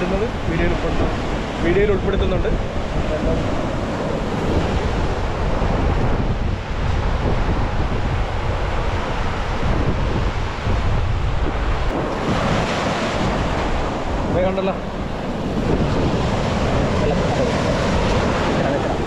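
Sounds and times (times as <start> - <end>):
surf washing onto beach: 0.0 - 19.0
wind buffeting microphone: 0.0 - 19.0.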